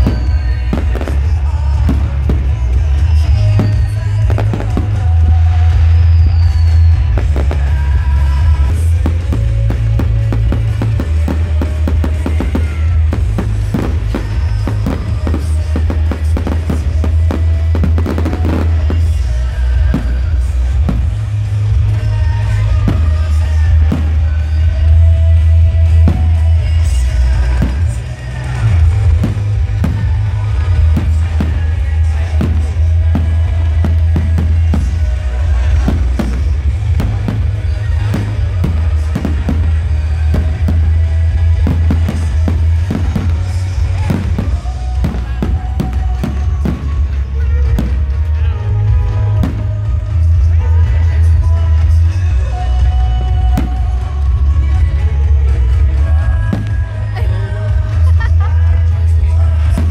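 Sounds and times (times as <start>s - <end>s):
fireworks bangs: 0.0s - 59.9s
music with heavy bass and drums: 0.0s - 59.9s.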